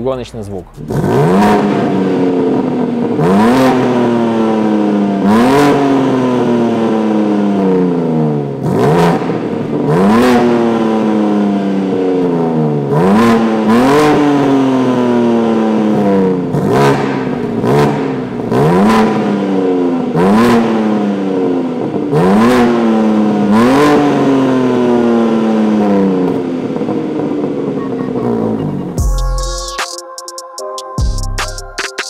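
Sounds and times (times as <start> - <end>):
car engine revving hard: 0.5 - 29.0.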